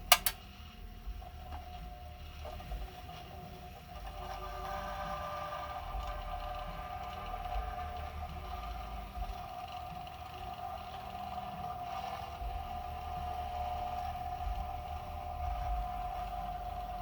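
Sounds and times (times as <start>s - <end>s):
toy motor whine over low hum: 0.0s - 17.0s.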